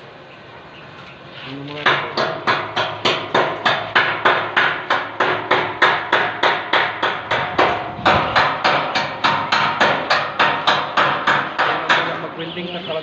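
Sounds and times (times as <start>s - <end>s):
hammer striking steel gate: 1.8s - 12.4s.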